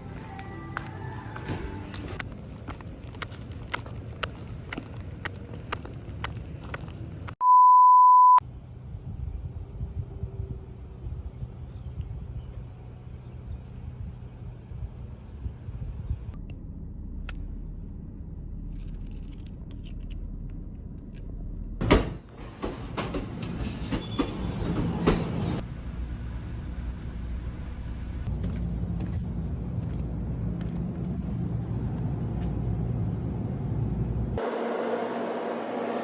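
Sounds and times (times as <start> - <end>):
vehicle rumble: 0.0 - 7.4, 8.4 - 36.0.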